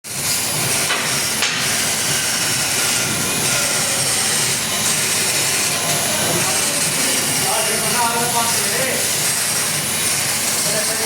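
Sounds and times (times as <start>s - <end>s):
wood planer whirring: 0.1s - 11.0s.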